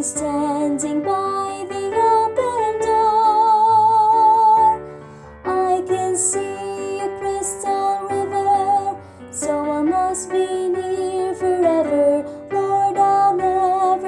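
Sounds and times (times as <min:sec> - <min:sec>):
woman singing with vibrato: 0:00.0 - 0:04.8, 0:05.5 - 0:14.0.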